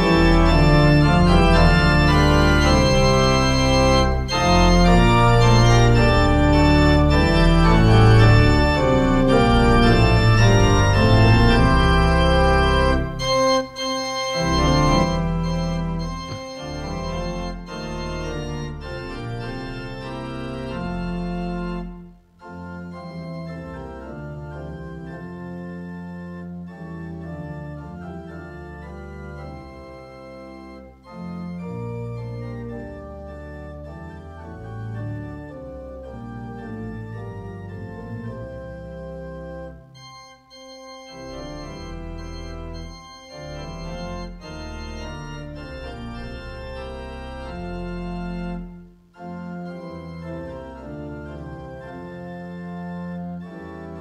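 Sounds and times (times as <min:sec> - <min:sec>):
organ playing held chords: 0:00.0 - 0:54.0.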